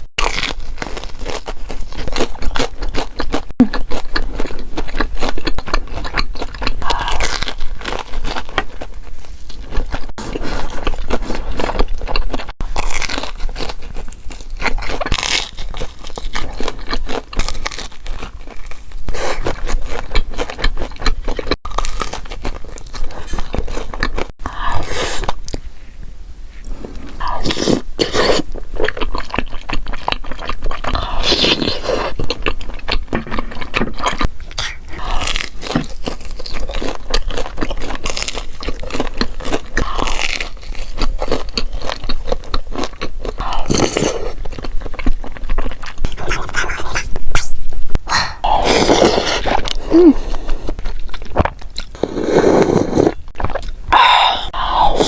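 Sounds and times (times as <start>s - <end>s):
crunchy biting and chewing: 0.0s - 25.7s, 26.6s - 55.0s.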